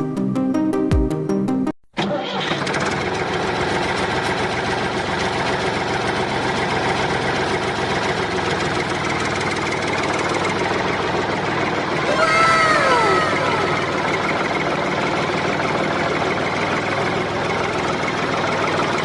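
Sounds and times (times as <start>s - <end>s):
tractor engine idling: 2.0s - 19.0s.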